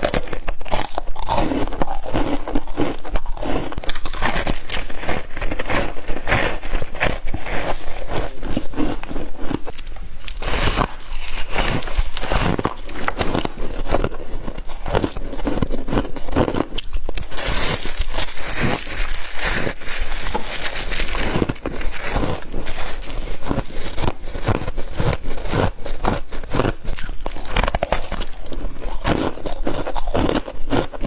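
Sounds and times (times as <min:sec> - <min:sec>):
crunchy chewing: 0:00.0 - 0:31.0.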